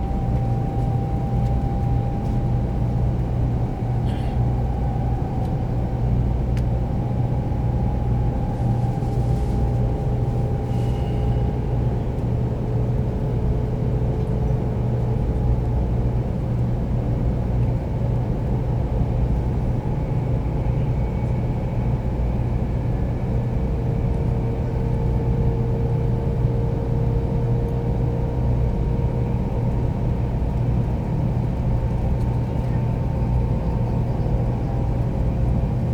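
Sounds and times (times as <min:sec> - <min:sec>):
train rumbling at speed: 0:00.0 - 0:35.9.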